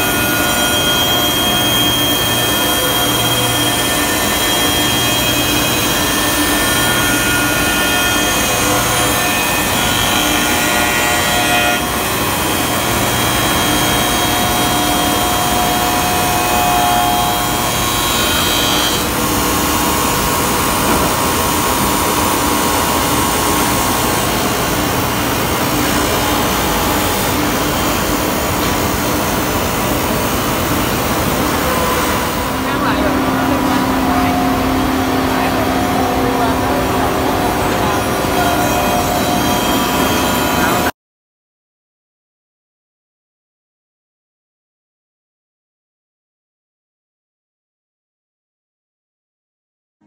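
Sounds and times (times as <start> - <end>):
high cutter whines: 0.0 - 40.9
woodworking machine cutting: 0.0 - 40.9.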